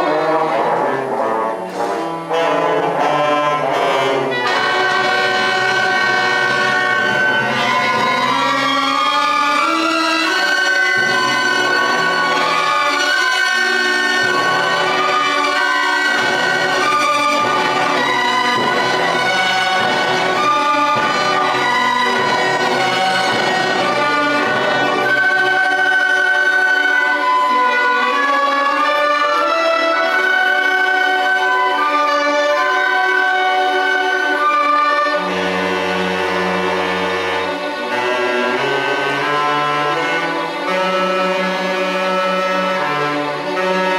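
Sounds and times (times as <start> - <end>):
concert band playing: 0.0 - 43.9.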